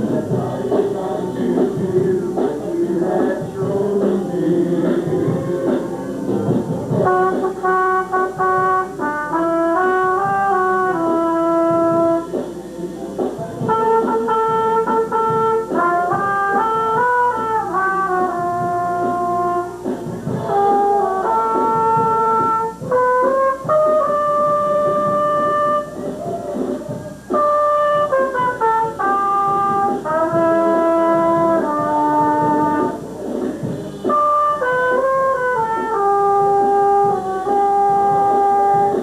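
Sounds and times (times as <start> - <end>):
brass instruments playing slow melody: 0.0 - 12.4, 13.6 - 26.0, 27.2 - 39.0.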